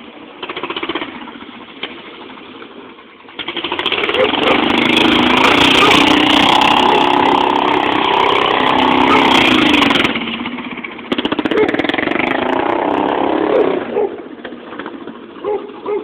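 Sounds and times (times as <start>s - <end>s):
small gasoline engine revving: 0.0s - 16.0s.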